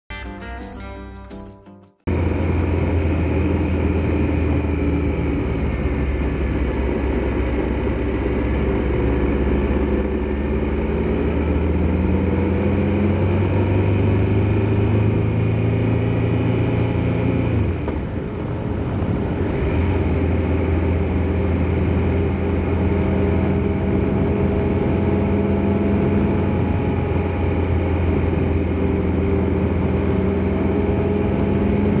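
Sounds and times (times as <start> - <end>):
motorcycle engine accelerating: 2.1 - 32.0.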